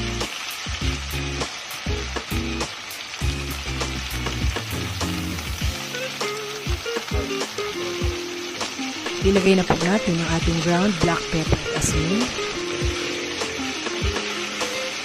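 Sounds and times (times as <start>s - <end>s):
background music: 0.0s - 15.0s
meat sizzling in a wok: 0.0s - 15.0s.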